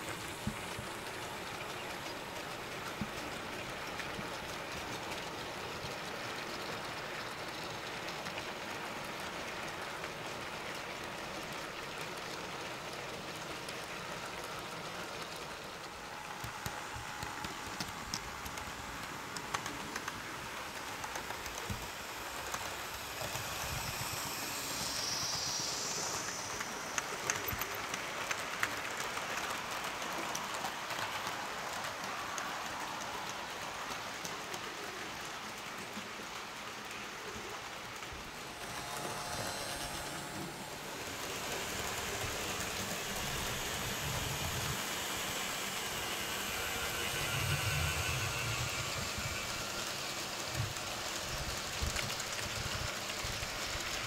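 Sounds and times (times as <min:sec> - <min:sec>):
model train rolling on track: 0:00.0 - 0:54.0.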